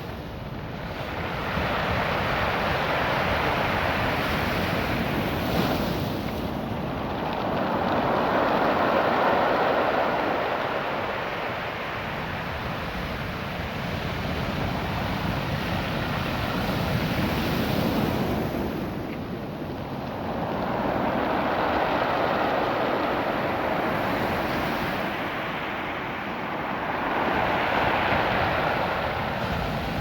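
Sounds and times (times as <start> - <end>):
surf washing over pebbles: 0.0 - 30.0.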